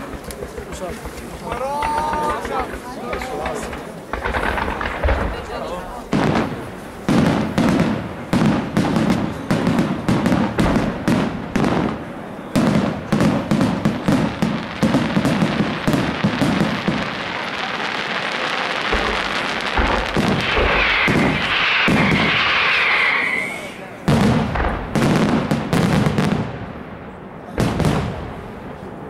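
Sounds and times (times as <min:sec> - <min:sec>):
fireworks crackle: 0:00.0 - 0:28.9
fireworks bangs: 0:00.0 - 0:29.0.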